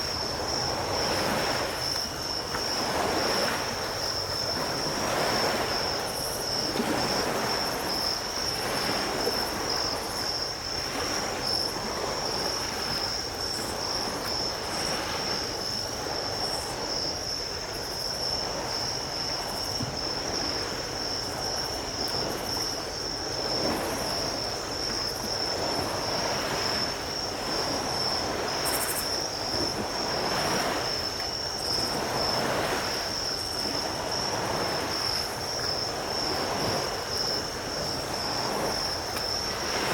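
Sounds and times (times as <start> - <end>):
insects trilling: 0.0 - 39.9
ocean surf on a beach: 0.0 - 39.9.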